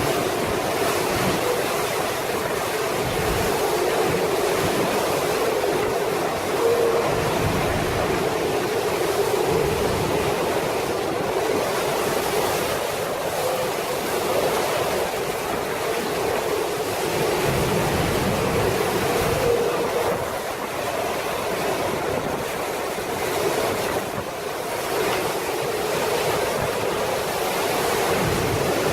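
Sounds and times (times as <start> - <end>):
strong hurricane wind: 0.0 - 28.9.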